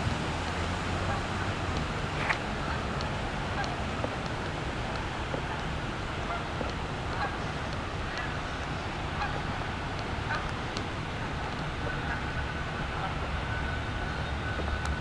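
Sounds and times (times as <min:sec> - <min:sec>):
geese honking: 0:00.9 - 0:14.9.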